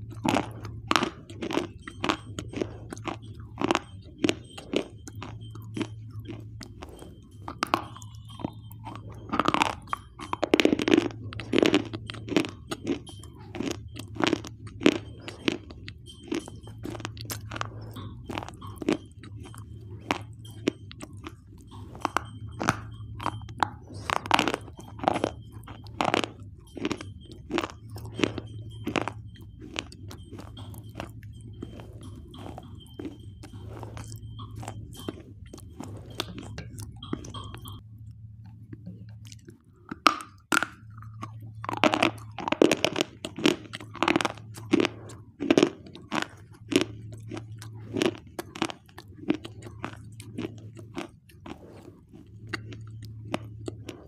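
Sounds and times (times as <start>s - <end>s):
person crunching a hard bar: 0.0s - 37.8s, 39.2s - 54.0s
low hum: 0.0s - 54.0s.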